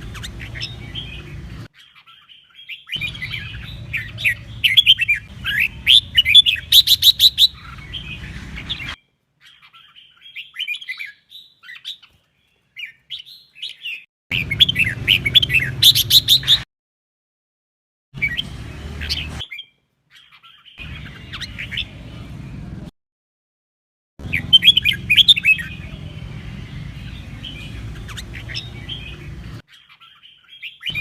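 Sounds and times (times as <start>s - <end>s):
bulbul singing: 0.0s - 12.1s, 12.8s - 16.6s, 18.2s - 22.5s, 24.2s - 31.0s.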